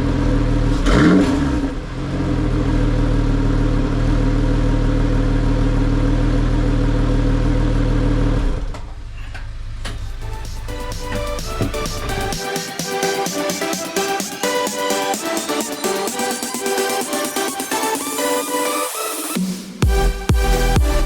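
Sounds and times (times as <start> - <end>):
car engine revving and idling: 0.0 - 18.2.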